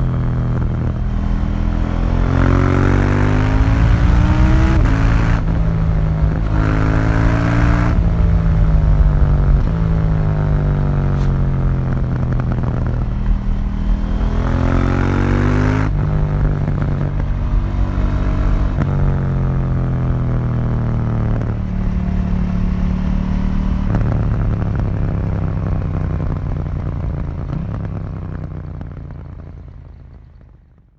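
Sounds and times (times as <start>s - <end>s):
motorcycle engine revving: 0.0s - 30.5s.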